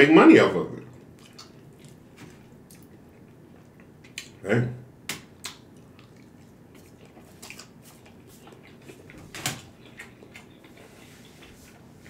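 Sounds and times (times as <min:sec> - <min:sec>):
person chewing noodles: 0:00.8 - 0:04.4, 0:05.3 - 0:12.0.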